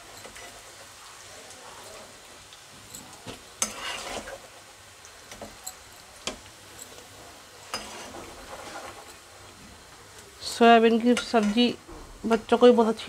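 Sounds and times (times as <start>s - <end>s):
steel spatula scraping in a pan: 0.0s - 9.8s, 10.6s - 11.8s
faint oil sizzle: 0.0s - 13.0s.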